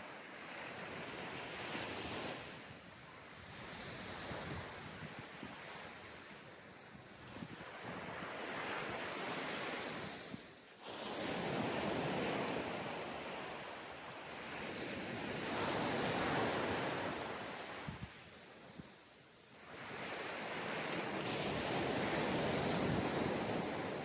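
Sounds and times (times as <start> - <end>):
waves breaking on beach: 0.0 - 24.0.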